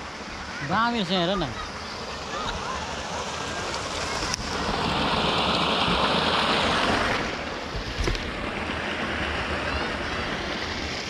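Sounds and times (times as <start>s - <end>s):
water rushing into pond: 0.0s - 11.0s.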